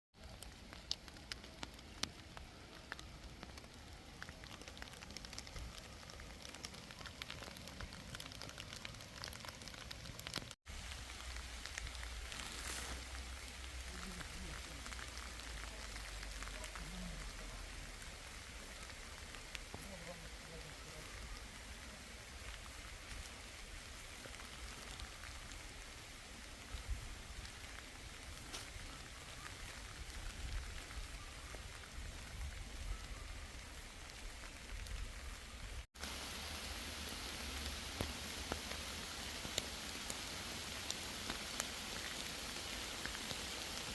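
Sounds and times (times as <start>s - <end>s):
raindrops ticking close by: 0.2s - 43.9s
steady rain in forest: 0.2s - 43.9s.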